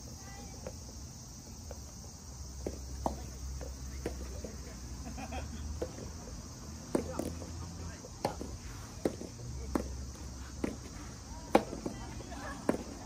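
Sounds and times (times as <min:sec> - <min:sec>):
crickets humming: 0:00.0 - 0:13.0.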